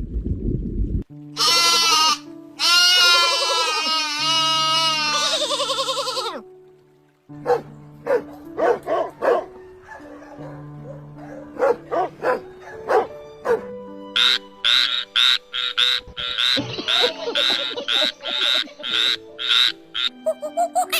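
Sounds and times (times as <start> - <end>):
background music with held notes: 1.0 - 20.9.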